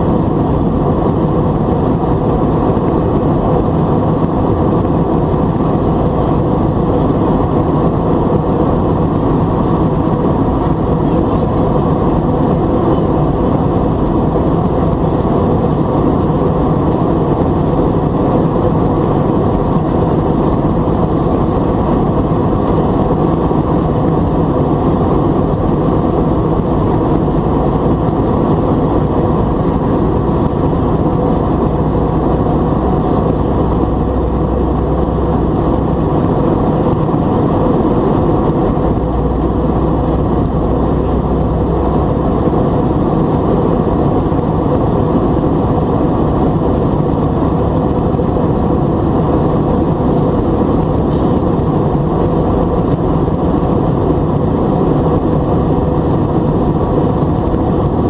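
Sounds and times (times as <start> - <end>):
air rushing along fuselage: 0.0 - 58.0
jet engines at climb power: 0.0 - 58.0.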